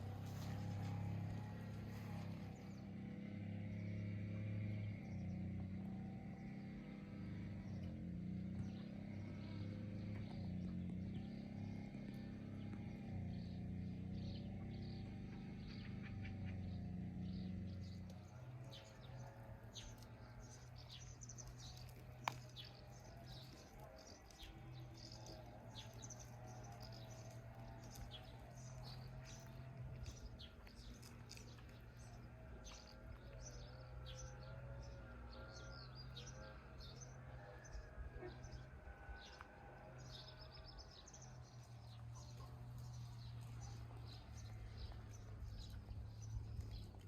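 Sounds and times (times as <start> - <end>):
birds chirping: 0.0 - 47.0
low warbling bird calls: 5.0 - 47.0.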